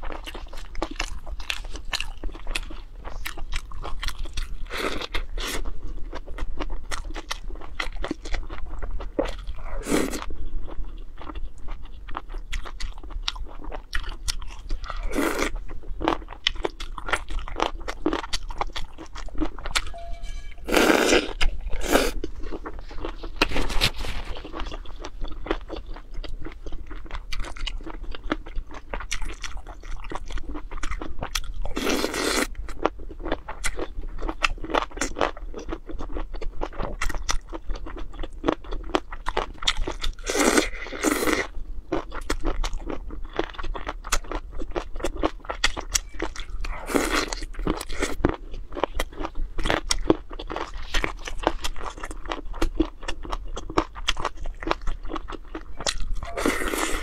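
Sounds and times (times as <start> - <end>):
person chewing and crunching: 0.0 - 20.0, 20.7 - 57.0.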